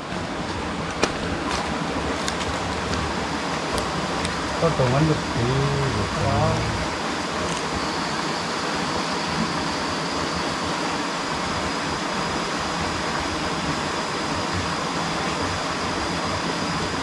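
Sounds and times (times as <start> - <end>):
river water rushing: 0.0 - 17.0
faint high whine: 2.6 - 17.0.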